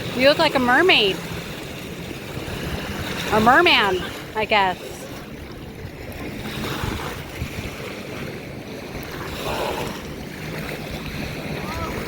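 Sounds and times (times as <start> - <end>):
waves washing on beach: 0.0 - 12.0
wind rumbling on microphone: 0.0 - 12.0.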